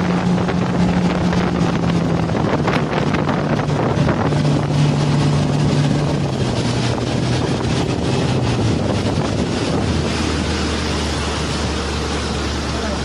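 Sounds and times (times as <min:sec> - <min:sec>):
motorboat engine running: 0:00.0 - 0:13.0
rush of boat wake: 0:00.0 - 0:13.0
wind buffeting microphone: 0:00.0 - 0:13.0.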